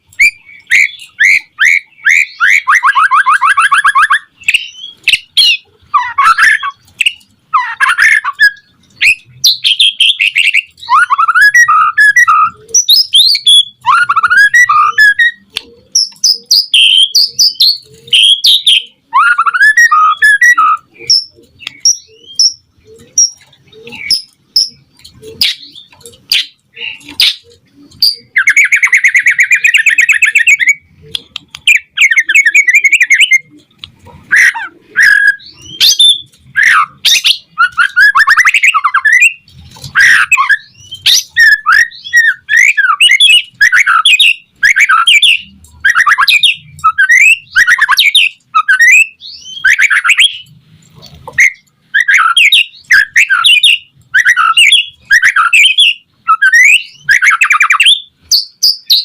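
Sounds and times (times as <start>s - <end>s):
bird singing whistled phrases: 0.1s - 22.6s, 25.4s - 30.9s, 31.7s - 33.6s, 34.3s - 39.4s, 40.0s - 50.5s, 51.4s - 59.0s.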